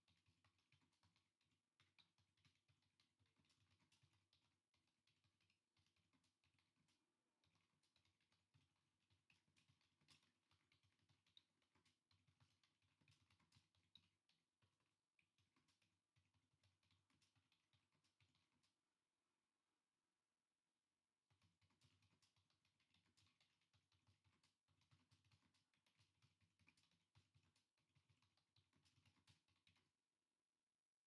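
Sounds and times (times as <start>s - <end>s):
faint rapid clicking: 0.0s - 18.9s, 21.3s - 30.1s.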